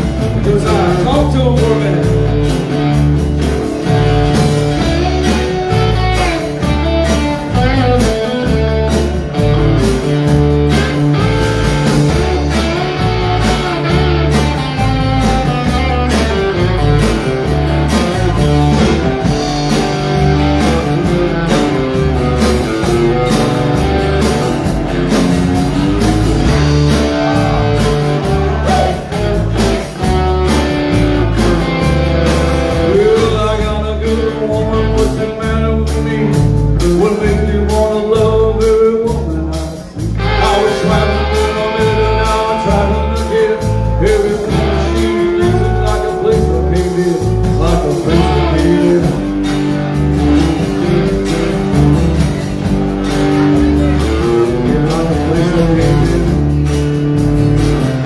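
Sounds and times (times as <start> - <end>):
live band playing blues: 0.0 - 58.0.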